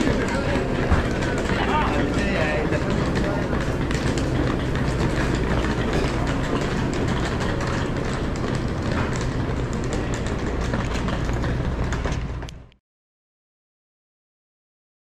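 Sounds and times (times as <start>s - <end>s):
footsteps: 0.0s - 12.7s
steady low hum: 0.0s - 12.8s.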